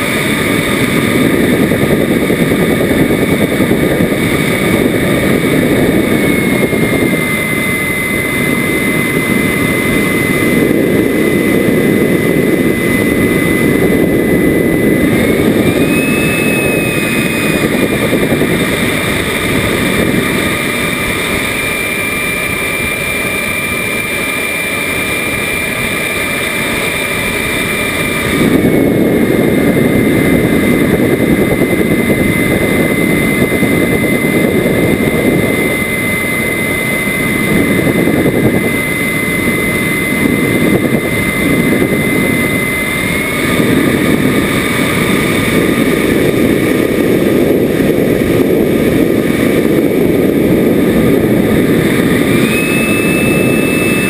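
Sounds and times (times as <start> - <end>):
model jet high whine: 0.0 - 54.0
wind rush on microphone: 0.0 - 54.0.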